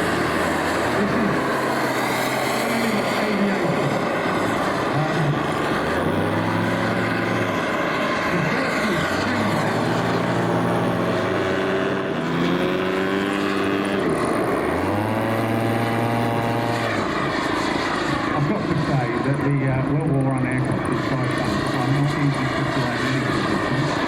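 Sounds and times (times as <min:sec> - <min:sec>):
model aircraft engines running: 0:00.0 - 0:24.0.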